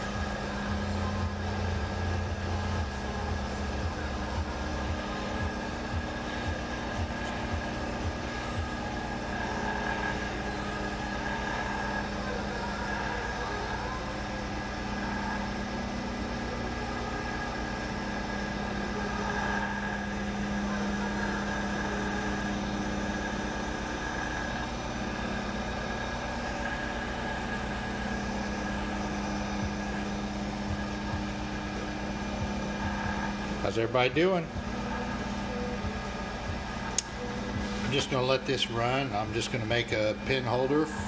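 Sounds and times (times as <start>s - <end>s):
wood lathe motor humming: 0.0s - 41.0s.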